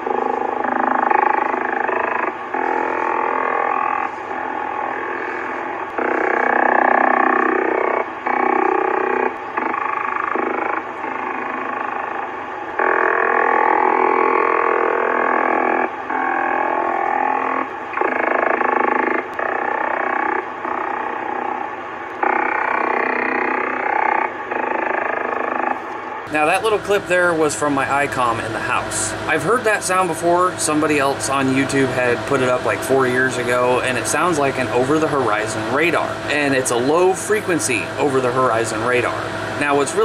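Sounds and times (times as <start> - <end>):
warbling radio signal: 0.0 - 40.0.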